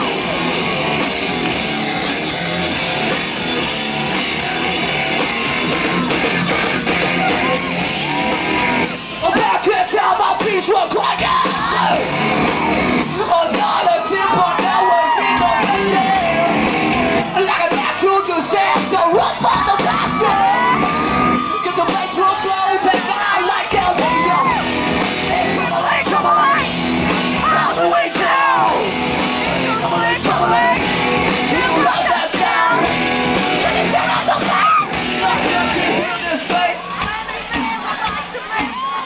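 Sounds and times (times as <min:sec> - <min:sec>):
live rock band playing: 0:00.0 - 0:39.0
shouted and sung vocals: 0:06.1 - 0:39.0.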